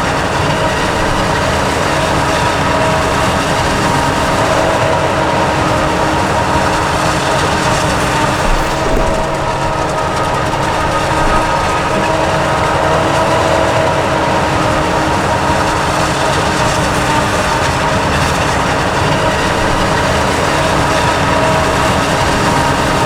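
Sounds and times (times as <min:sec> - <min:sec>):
heavy machinery engines running: 0:00.0 - 0:23.0
mechanical whine: 0:00.7 - 0:23.0.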